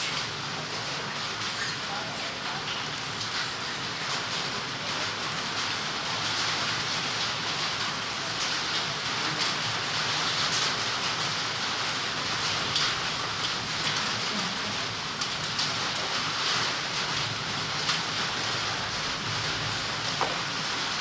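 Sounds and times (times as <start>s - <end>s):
individual raindrops: 0.0s - 21.0s
rain falling through foliage: 0.0s - 21.0s.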